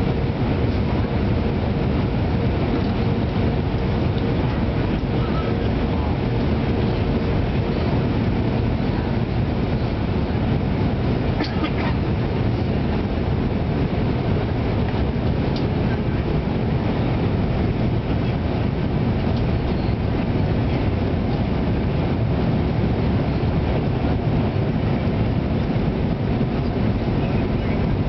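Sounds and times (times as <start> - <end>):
airplane cabin engine and airflow noise: 0.0 - 28.0.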